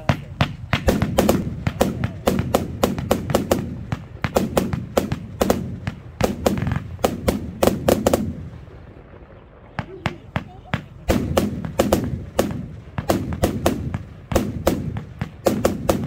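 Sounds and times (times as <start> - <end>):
fireworks cake firing shots: 0.0 - 16.0.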